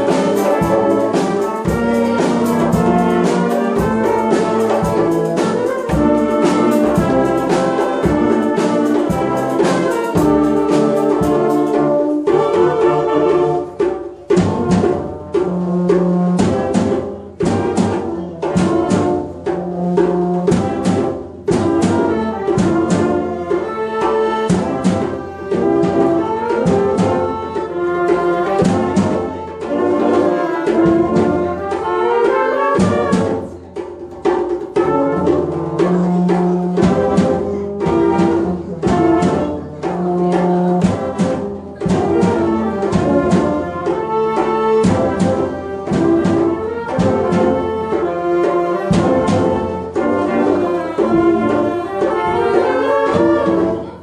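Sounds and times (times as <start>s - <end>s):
brass and saxophones playing: 0.0s - 33.8s, 34.7s - 54.0s
drum kit steady beat: 0.0s - 54.0s.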